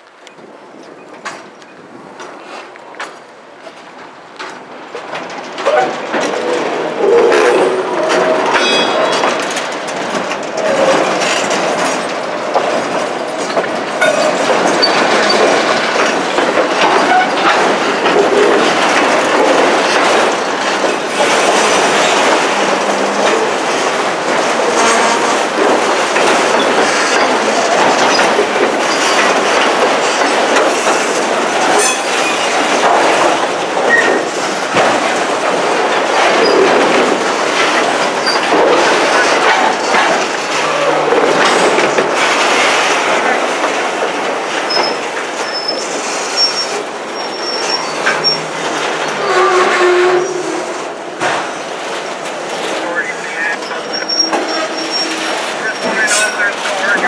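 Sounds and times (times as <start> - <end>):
freight train rolling past: 0.0 - 57.0
wheels clacking over rail joints: 0.0 - 57.0.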